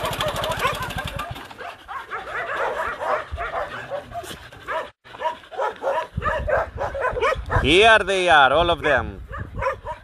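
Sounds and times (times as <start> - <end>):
dogs barking and yipping: 0.0 - 8.0, 8.7 - 10.0.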